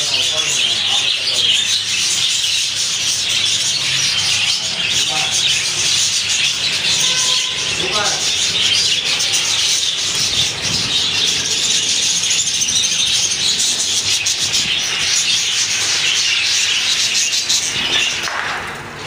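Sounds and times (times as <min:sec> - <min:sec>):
budgerigars chattering and chirping: 0:00.0 - 0:18.7.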